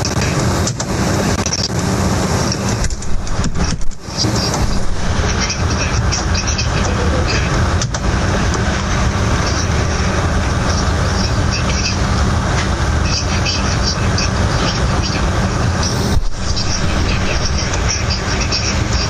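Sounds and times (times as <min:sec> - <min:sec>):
loud steady rumbling: 0:00.0 - 0:19.0.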